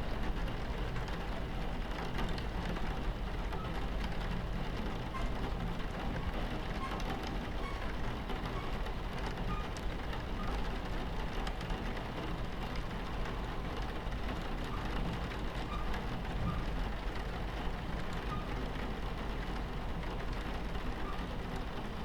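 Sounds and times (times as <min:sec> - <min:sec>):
rain pattering on window: 0:00.0 - 0:22.0
train rumbling on tracks: 0:00.0 - 0:22.0
small clicks and rattles: 0:01.8 - 0:22.0.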